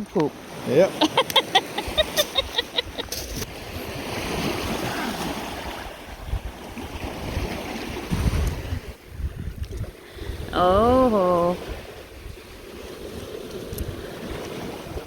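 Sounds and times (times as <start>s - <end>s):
waves washing against rocks: 0.0s - 15.0s
wind buffeting microphone: 1.2s - 15.0s.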